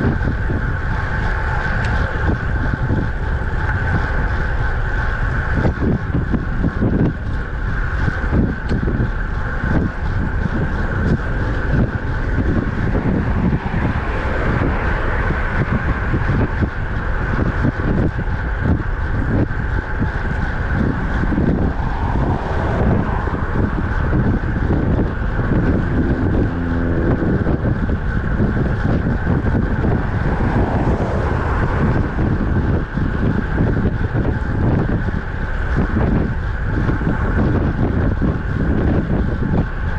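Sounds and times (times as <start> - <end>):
road and traffic noise: 0.0 - 39.9
wind buffeting microphone: 0.0 - 39.9.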